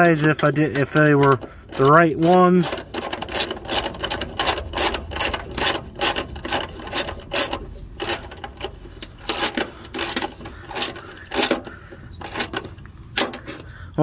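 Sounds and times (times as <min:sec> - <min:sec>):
socket ratchet clicking: 0:00.0 - 0:13.7.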